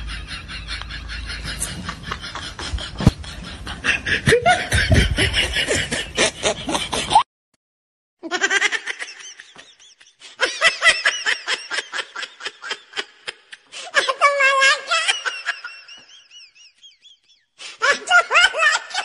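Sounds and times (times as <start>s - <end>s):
high-pitched laughter: 0.0s - 7.3s, 8.2s - 19.0s.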